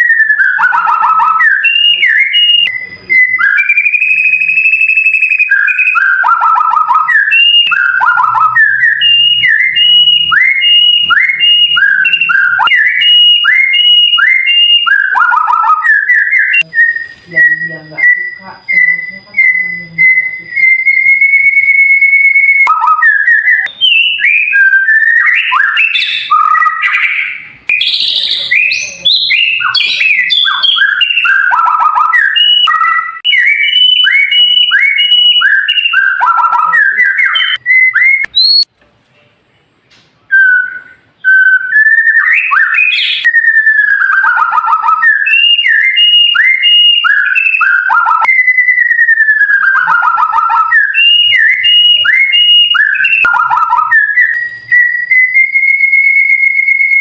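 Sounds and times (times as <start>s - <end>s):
songbird whistling: 0.0s - 38.7s, 40.3s - 57.0s.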